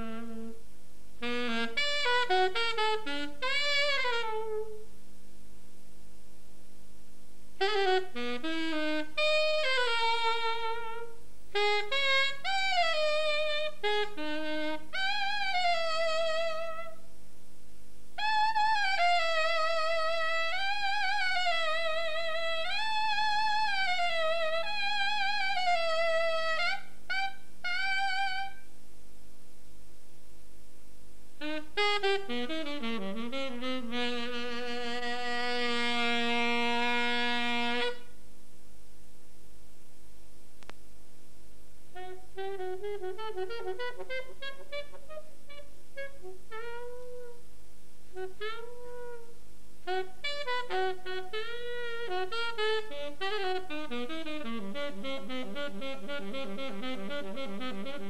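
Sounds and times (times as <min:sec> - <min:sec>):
saxophone melody with vibrato: 0:00.0 - 0:00.6, 0:01.2 - 0:04.9, 0:07.6 - 0:17.0, 0:18.2 - 0:28.7, 0:31.4 - 0:38.2, 0:41.9 - 0:47.5, 0:48.1 - 0:58.0.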